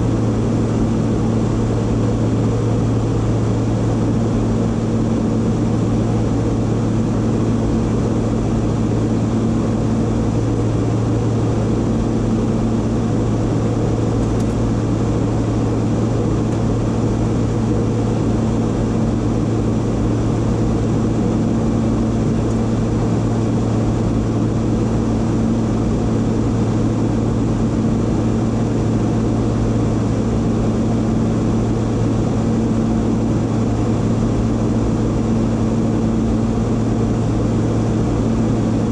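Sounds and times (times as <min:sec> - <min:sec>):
constant low hum: 0:00.0 - 0:38.9
jet engine and airflow rush: 0:00.0 - 0:38.9.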